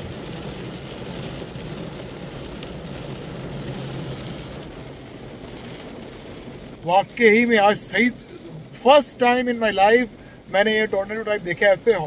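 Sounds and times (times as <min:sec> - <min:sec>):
car driving rumble: 0:00.0 - 0:12.0
heavy rain on car roof: 0:00.0 - 0:12.0.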